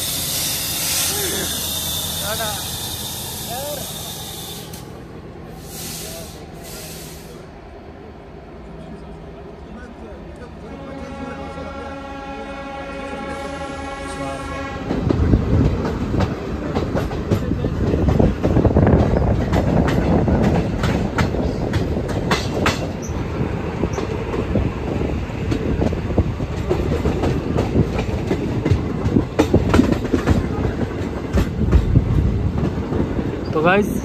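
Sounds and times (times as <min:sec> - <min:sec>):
train wheels rumbling and clacking: 0:00.0 - 0:07.9, 0:12.8 - 0:34.0.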